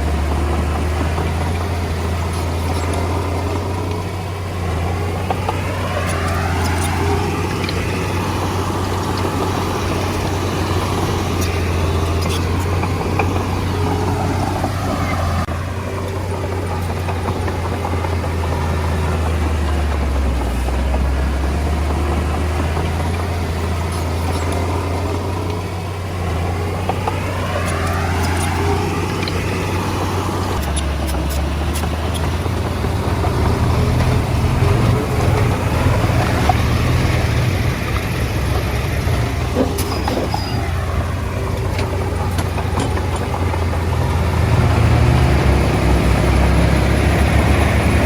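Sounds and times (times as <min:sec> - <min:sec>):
bulldozer diesel engine droning: 0:00.0 - 0:48.0.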